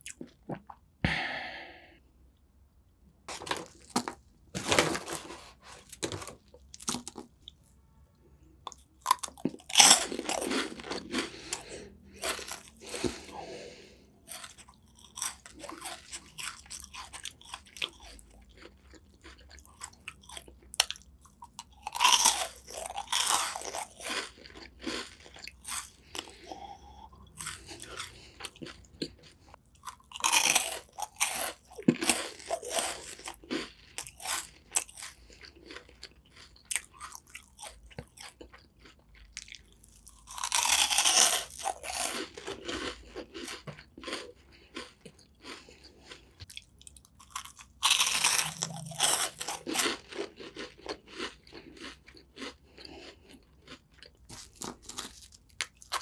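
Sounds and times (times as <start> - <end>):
crunching snack bites: 3.3 - 7.7, 8.6 - 56.0.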